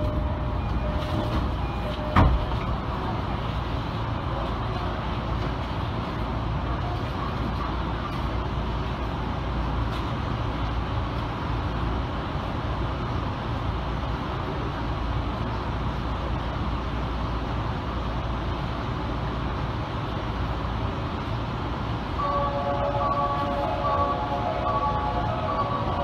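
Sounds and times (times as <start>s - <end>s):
train interior hum and hiss: 0.0s - 26.0s.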